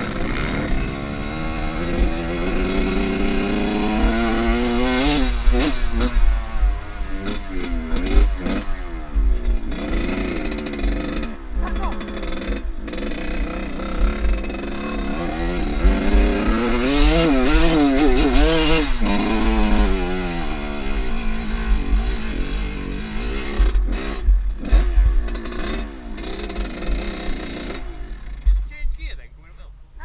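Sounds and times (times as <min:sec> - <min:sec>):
motorcycle engine revving: 0:00.0 - 0:28.8.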